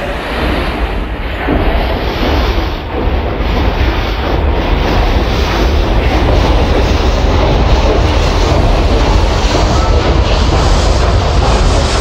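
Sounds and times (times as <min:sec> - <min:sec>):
heavy low rumble: 0:00.0 - 0:12.0
steam engine rushing steam: 0:00.0 - 0:12.0.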